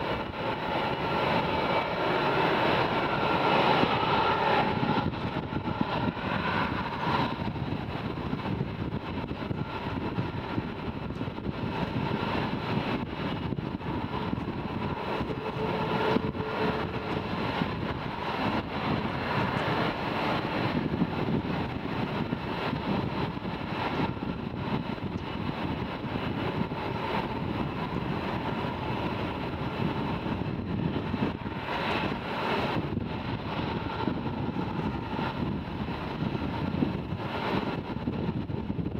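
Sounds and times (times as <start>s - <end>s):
jet engines taxiing: 0.0s - 38.9s.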